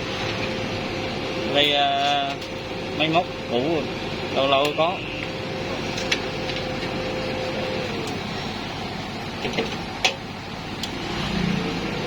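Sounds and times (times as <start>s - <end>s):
welding machine humming: 0.0s - 12.0s.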